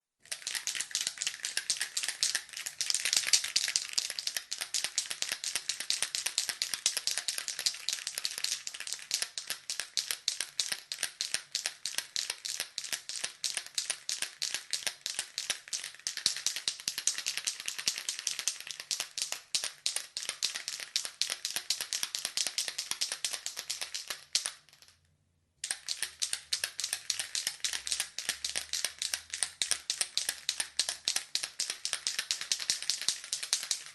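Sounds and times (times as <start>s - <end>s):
spray can ball rattling: 0.2s - 24.9s, 25.6s - 33.9s.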